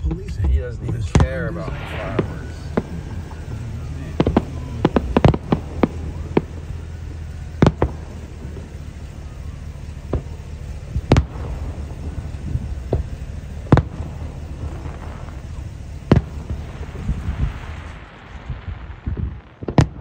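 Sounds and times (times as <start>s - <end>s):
faint pops: 0.0s - 20.0s
fireworks bangs and crackles: 0.0s - 20.0s
fireworks booms: 0.0s - 20.0s
low rumble: 0.0s - 20.0s.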